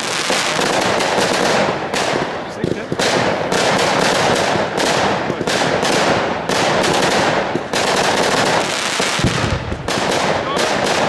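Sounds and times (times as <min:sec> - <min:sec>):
firework crackling: 0:00.0 - 0:11.0
firework shell bursts: 0:00.0 - 0:11.0.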